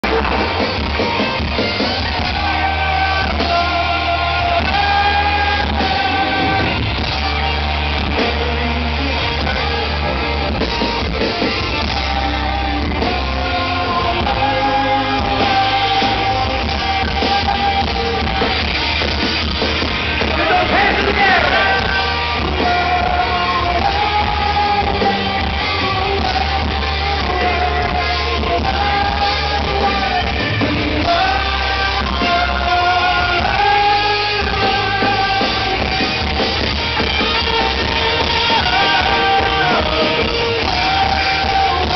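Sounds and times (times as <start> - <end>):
live rock band: 0.0 - 41.9
man singing: 1.9 - 10.6, 11.7 - 18.9, 20.2 - 41.9.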